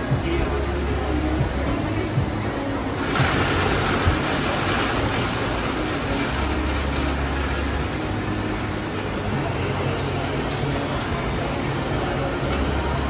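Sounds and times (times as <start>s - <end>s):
machine running with low hum: 0.0s - 13.0s.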